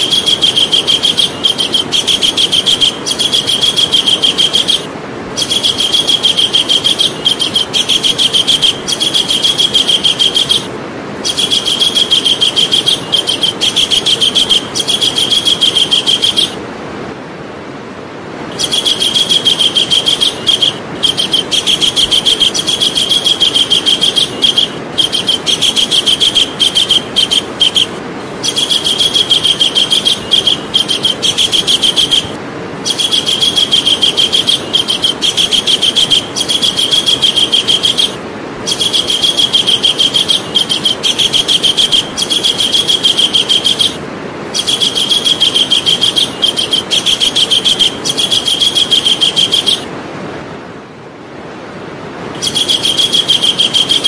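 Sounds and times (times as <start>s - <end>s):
kingfisher chattering trills: 0.0s - 16.6s, 18.5s - 49.9s, 52.4s - 54.0s
steady background hiss: 0.0s - 54.0s.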